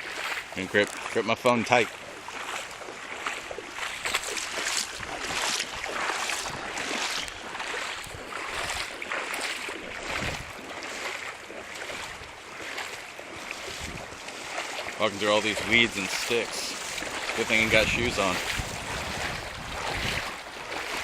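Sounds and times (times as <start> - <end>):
legs wading through water: 0.0 - 21.0.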